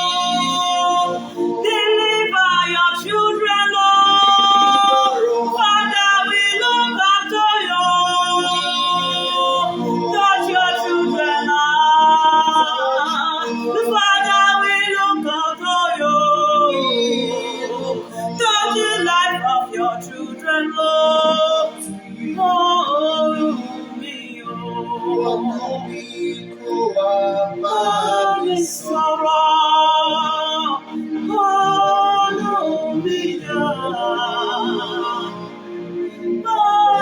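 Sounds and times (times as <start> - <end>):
person singing worship song: 0.0 - 37.0.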